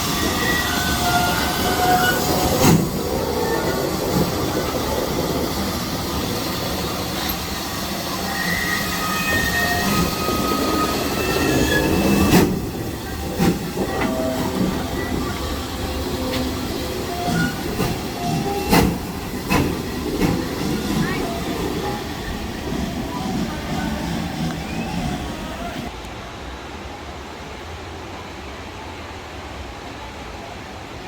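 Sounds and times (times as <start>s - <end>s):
wheels squealing on track: 0.0s - 25.9s
train rumbling: 0.0s - 26.4s.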